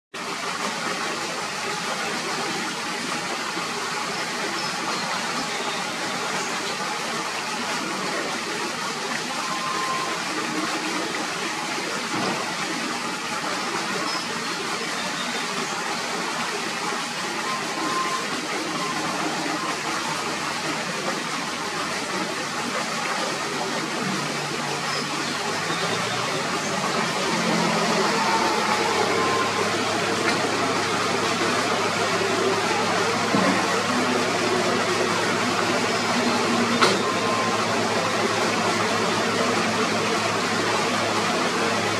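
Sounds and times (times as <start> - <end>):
rushing outdoor noise: 0.2 - 41.9.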